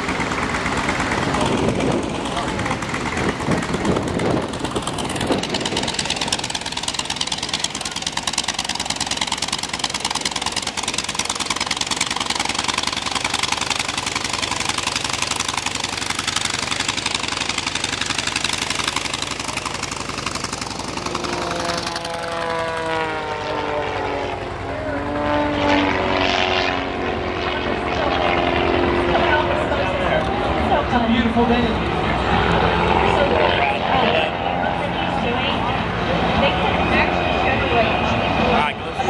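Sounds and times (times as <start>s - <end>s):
propeller plane piston engines: 0.0s - 39.0s.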